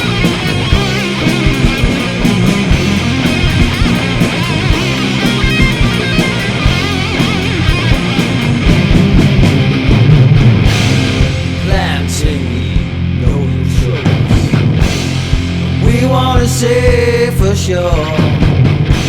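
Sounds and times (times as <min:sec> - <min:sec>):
rock guitar: 0:00.0 - 0:19.0
steady drum beat: 0:00.0 - 0:19.0.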